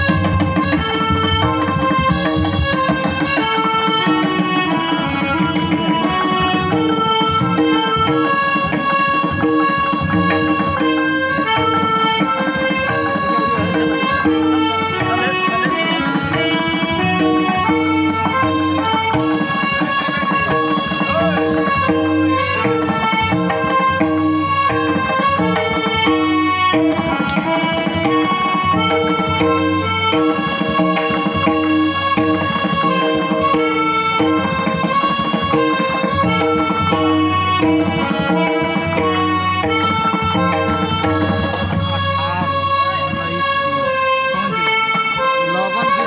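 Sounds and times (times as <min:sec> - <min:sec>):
harmonium melody: 0:00.0 - 0:46.0
tabla drum strokes: 0:00.0 - 0:46.0.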